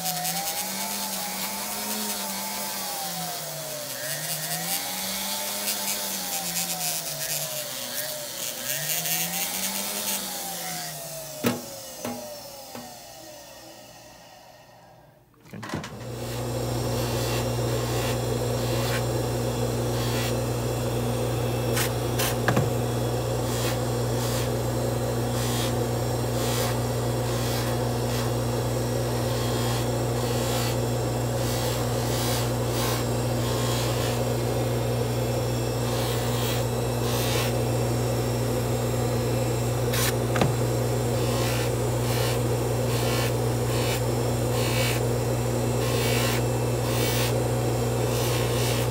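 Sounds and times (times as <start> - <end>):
polishing motor humming: 0.0 - 15.1, 15.9 - 48.9.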